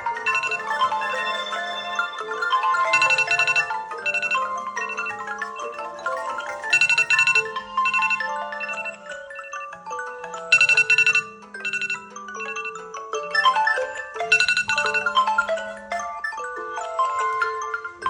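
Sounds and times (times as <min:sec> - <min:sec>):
smartphone ringtone melody: 0:00.0 - 0:18.0.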